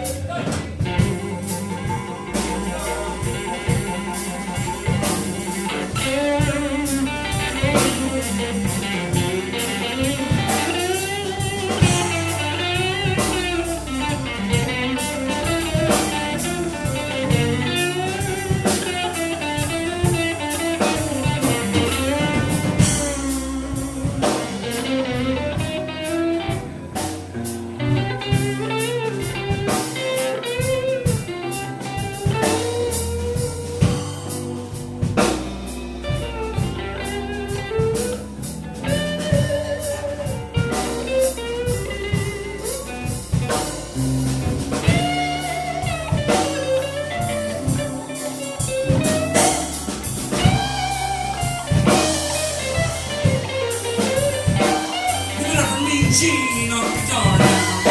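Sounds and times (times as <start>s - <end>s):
bass: 0.0s - 57.9s
drum kit: 0.0s - 57.9s
electric guitar lead lines: 0.0s - 57.9s.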